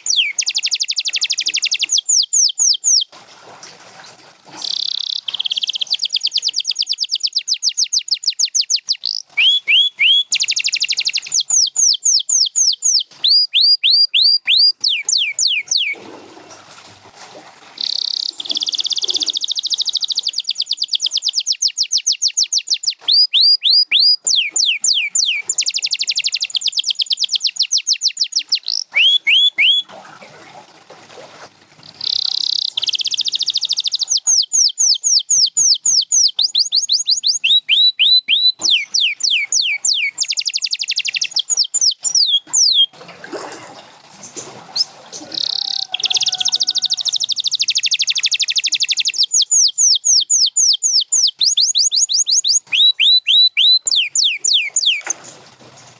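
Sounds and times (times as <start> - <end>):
canary singing trills: 0.0 - 3.1, 4.6 - 16.0, 17.8 - 29.9, 32.0 - 43.0, 44.7 - 55.2.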